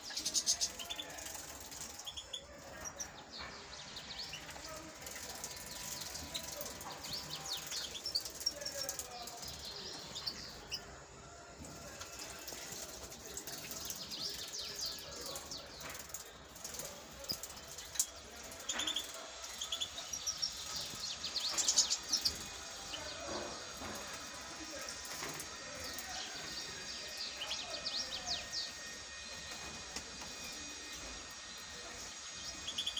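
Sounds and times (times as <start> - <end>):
finches chirping and twittering: 0.0 - 11.1, 13.4 - 32.9.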